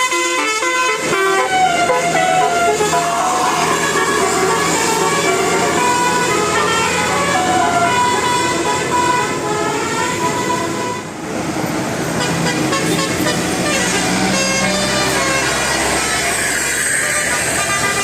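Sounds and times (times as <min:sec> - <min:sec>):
bus horn playing melody: 0:00.0 - 0:11.2, 0:12.2 - 0:18.0.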